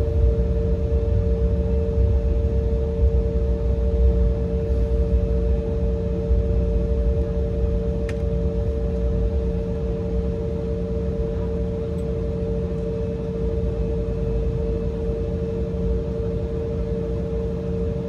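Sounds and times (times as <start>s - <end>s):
jet cabin drone: 0.0s - 18.0s.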